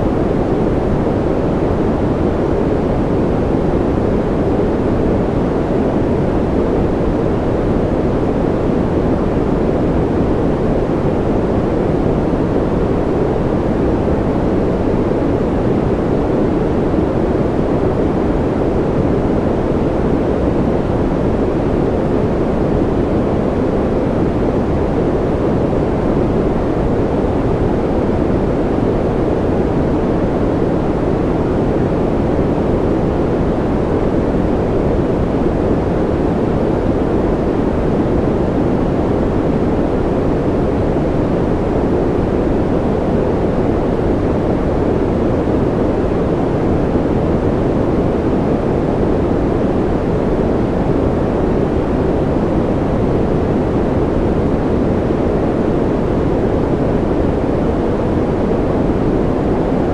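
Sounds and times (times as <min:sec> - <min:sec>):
deep muffled white noise: 0:00.0 - 0:59.9.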